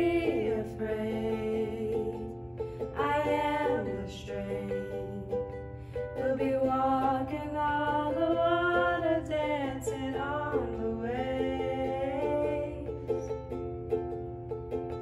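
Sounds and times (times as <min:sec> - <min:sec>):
women singing: 0:00.0 - 0:13.4
strummed acoustic string instrument: 0:00.0 - 0:15.0.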